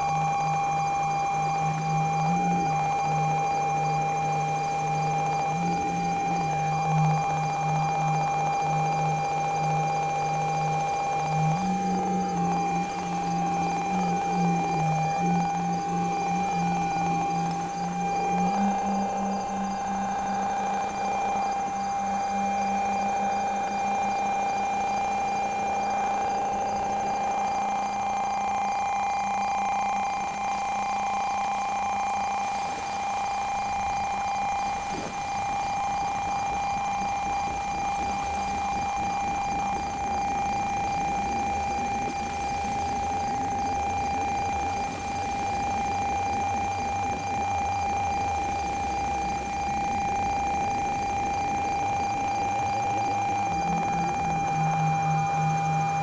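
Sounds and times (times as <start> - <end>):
synthesizer drone: 0.0 - 56.0.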